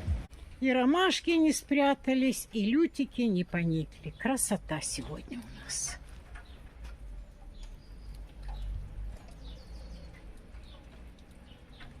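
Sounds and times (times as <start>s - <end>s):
birds chirping: 1.0s - 12.0s.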